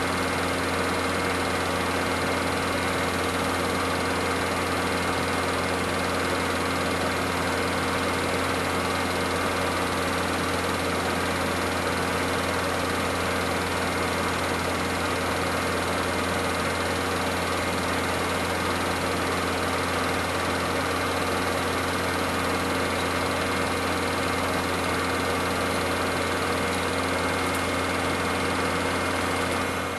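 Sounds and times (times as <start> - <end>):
film projector humming: 0.0 - 29.9.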